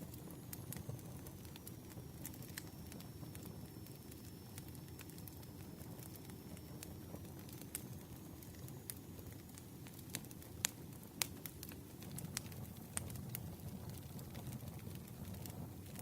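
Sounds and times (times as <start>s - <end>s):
burning wood crackling: 0.0s - 16.0s
fire flames rumbling: 0.0s - 16.0s.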